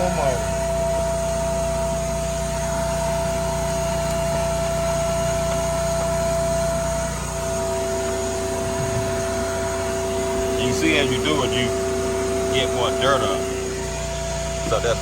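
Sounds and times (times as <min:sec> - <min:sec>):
small motor whining: 0:00.0 - 0:15.0.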